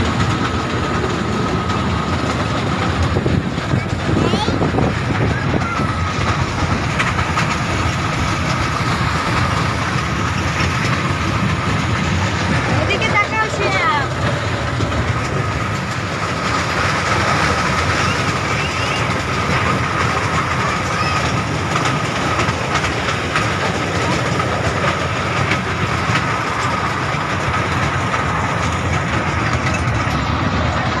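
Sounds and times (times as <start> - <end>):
ride train rumbling and rattling: 0.0 - 31.0.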